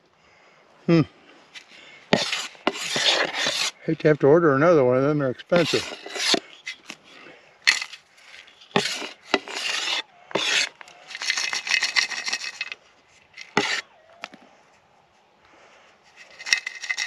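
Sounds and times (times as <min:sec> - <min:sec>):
gravel scraping and rattling: 0:01.5 - 0:14.3, 0:16.1 - 0:17.0.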